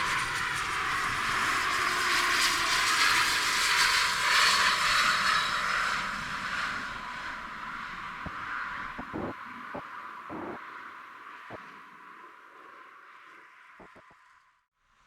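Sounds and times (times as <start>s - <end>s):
jet engine noise with whine: 0.0s - 14.6s.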